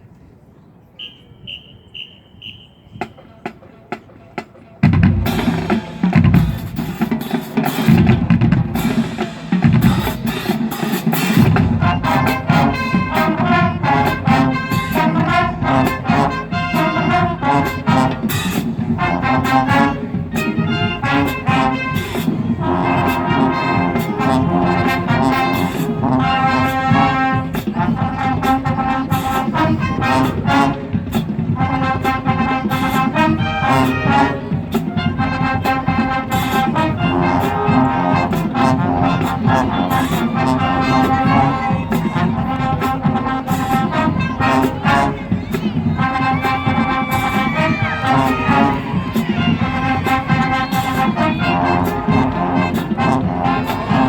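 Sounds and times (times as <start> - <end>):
marching band playing: 1.0 - 54.0.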